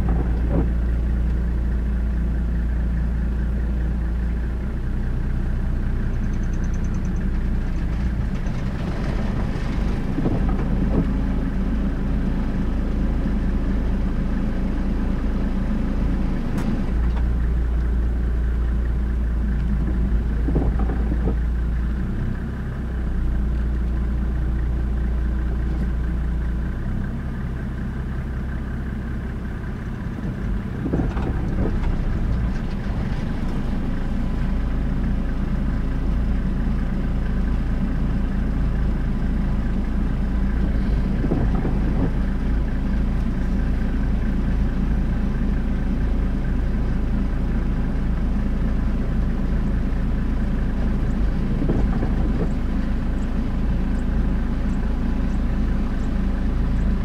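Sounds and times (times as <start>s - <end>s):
car engine running at low revs: 0.0s - 57.0s.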